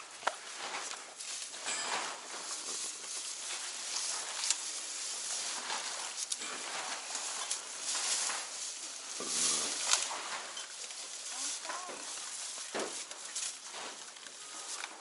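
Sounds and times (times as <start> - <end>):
elephants rustling dry grass: 0.0 - 15.0.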